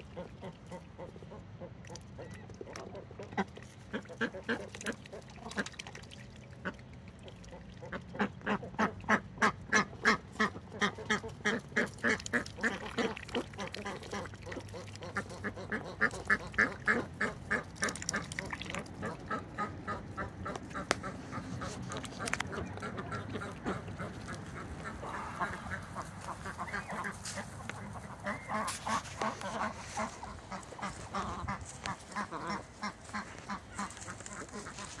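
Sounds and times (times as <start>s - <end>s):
ducks dabbling in water: 0.0s - 35.0s
ducks quacking: 0.0s - 35.0s.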